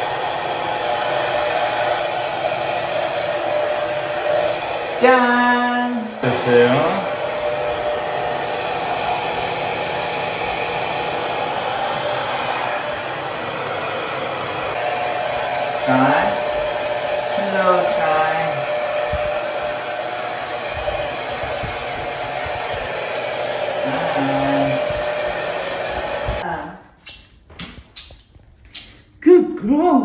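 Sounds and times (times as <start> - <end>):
hair dryer blowing: 0.0 - 26.7.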